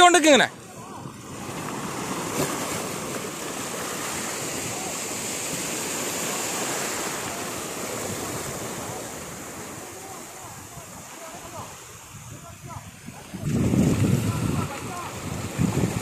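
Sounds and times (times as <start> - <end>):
sea water splashing: 0.0 - 16.0.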